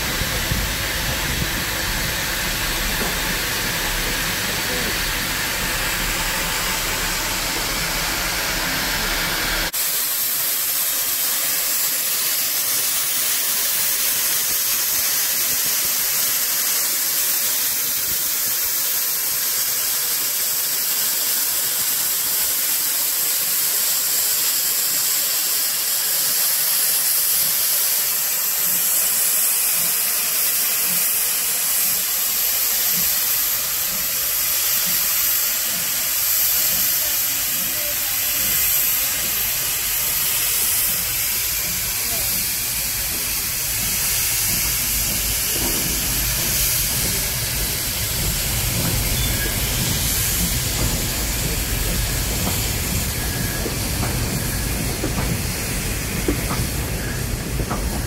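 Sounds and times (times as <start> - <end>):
steam locomotive hissing steam: 0.0 - 58.0.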